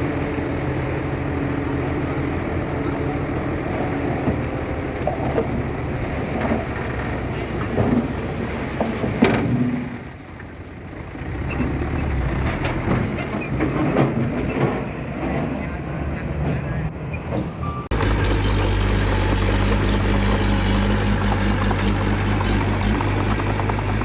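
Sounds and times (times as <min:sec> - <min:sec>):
diesel engine of earthmoving machinery: 0:00.0 - 0:24.0.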